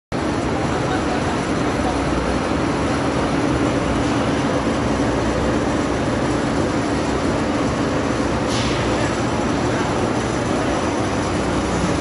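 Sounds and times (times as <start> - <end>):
machine running with hum: 0.1 - 12.0.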